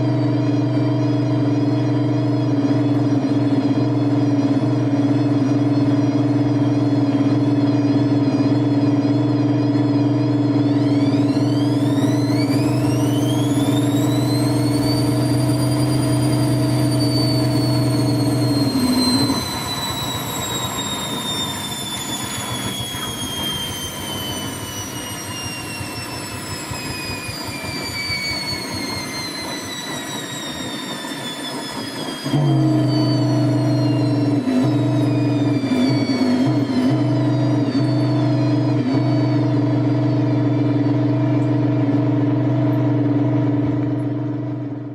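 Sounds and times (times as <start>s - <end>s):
low motor hum: 0.0s - 30.4s, 32.0s - 44.9s
washing machine drum whine: 0.0s - 44.9s.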